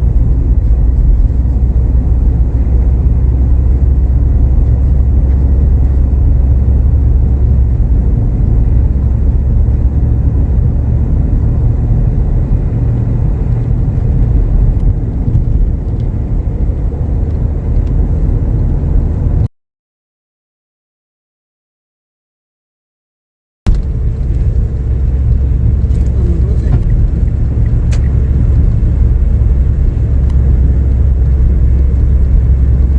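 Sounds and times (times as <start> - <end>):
car driving at speed: 0.0 - 19.5, 23.7 - 32.9.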